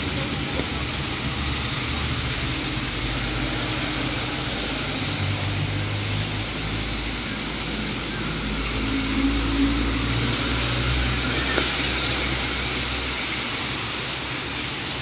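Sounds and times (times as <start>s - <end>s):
car engines humming: 0.0s - 15.0s
tyres hissing on wet road: 0.0s - 15.0s.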